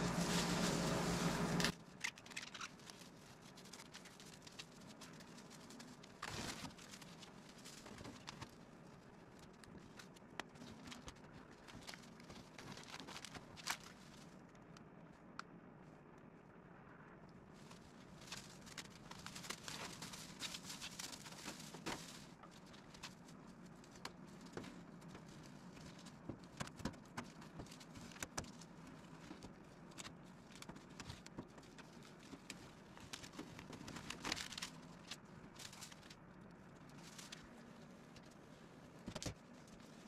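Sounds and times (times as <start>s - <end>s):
masking tape crinkling and tearing: 0.0s - 14.7s, 17.6s - 40.0s.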